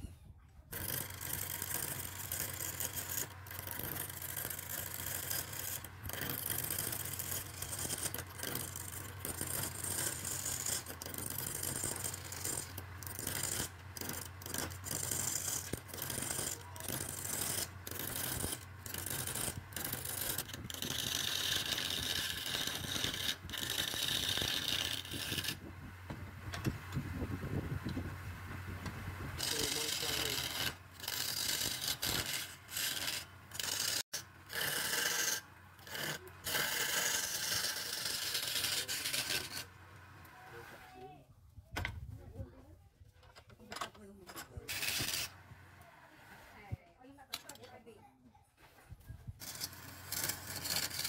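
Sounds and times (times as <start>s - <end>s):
tool scraping spinning wood: 0.7s - 41.2s, 43.2s - 46.8s, 48.6s - 51.0s.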